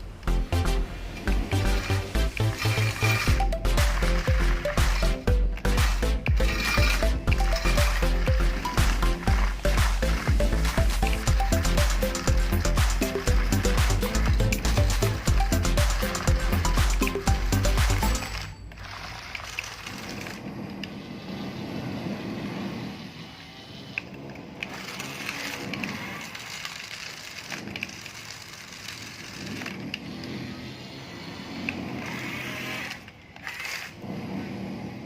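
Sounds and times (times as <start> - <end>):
small electric motors running: 1.2 - 35.0.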